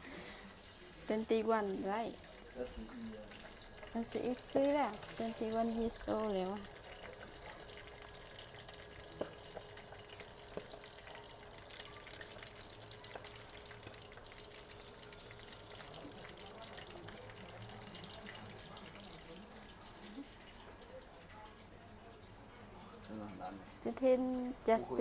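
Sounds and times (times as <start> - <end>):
chicken frying in hot oil: 0.0 - 24.1.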